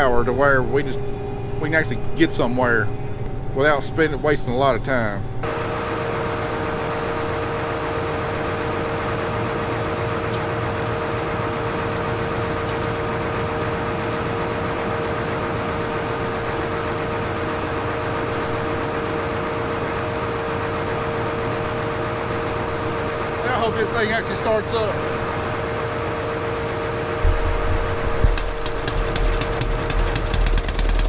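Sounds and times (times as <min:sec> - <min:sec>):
machinery whine: 0:00.0 - 0:31.0
cotton picker humming: 0:05.4 - 0:31.0.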